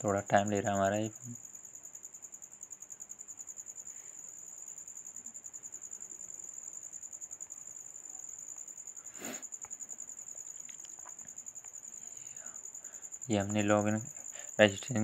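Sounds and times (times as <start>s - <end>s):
insect trilling: 0.0s - 15.0s.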